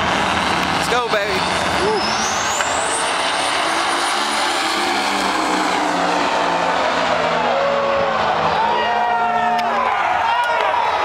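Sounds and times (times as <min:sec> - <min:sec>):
high whine: 0:00.0 - 0:09.8
drag car engines accelerating: 0:00.0 - 0:11.0.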